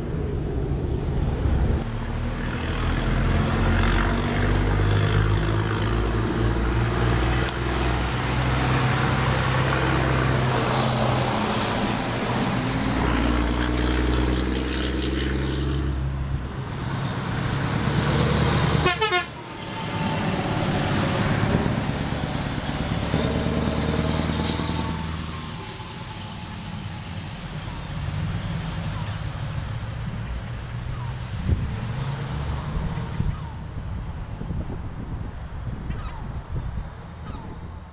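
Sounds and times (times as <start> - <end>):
truck diesel engines revving: 0.0 - 37.9.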